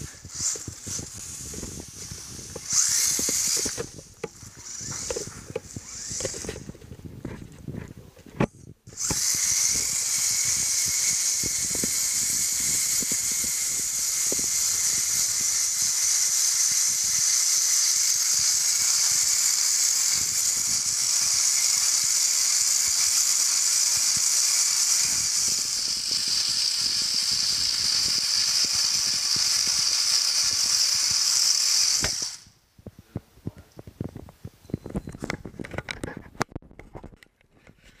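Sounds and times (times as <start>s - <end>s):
toy car electric motor whine: 0.0s - 6.8s, 8.9s - 32.6s.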